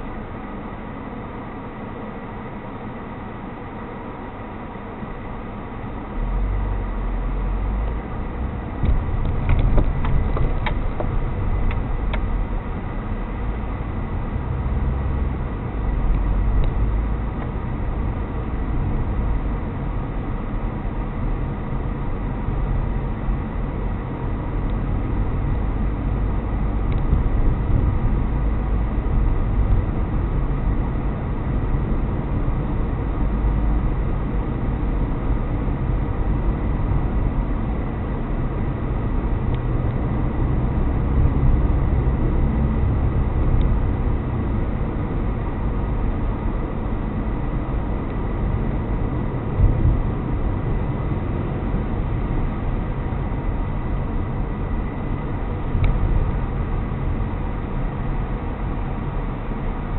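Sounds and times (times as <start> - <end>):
tyre and engine rumble: 0.0 - 59.9.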